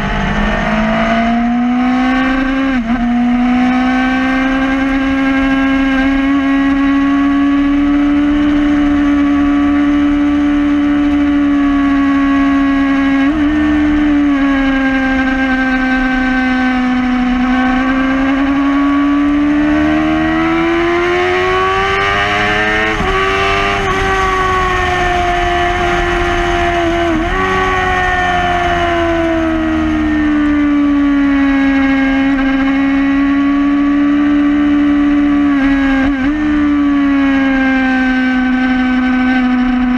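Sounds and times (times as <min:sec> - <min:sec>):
sport bike engine at high revs: 0:00.0 - 0:39.9.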